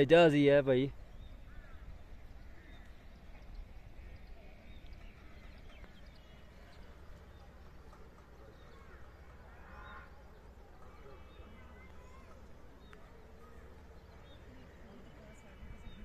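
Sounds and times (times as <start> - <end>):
faint distant voices: 1.6 - 16.0.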